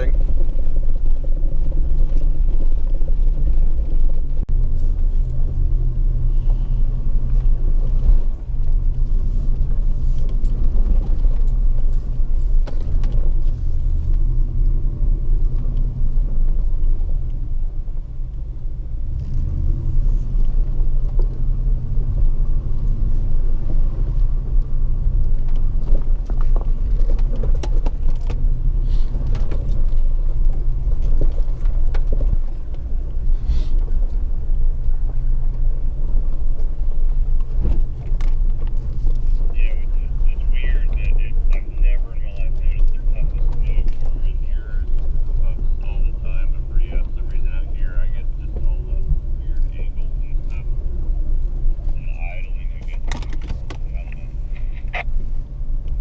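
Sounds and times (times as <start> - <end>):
car engine running: 0.0 - 56.0
light rattles and clicks: 6.3 - 17.6, 19.1 - 50.9, 51.5 - 55.1.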